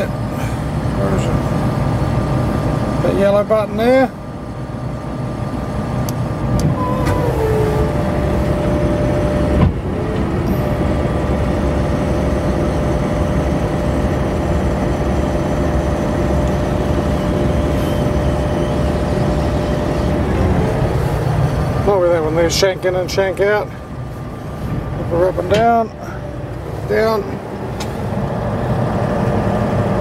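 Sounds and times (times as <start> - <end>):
diesel engine under load: 0.0 - 30.0
hydraulic high whine: 0.0 - 30.0.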